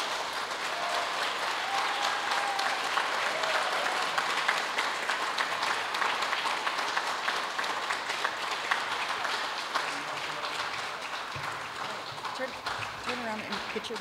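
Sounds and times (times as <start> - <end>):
people applauding: 0.0 - 14.0.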